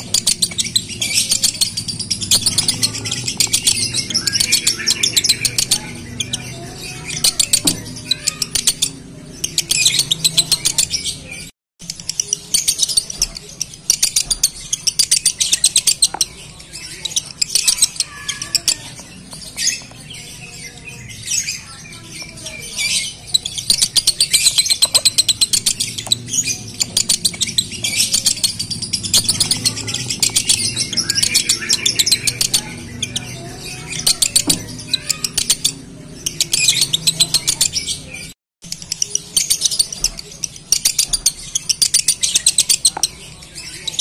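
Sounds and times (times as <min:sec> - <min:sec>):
lovebird chattering song: 0:00.0 - 0:44.0.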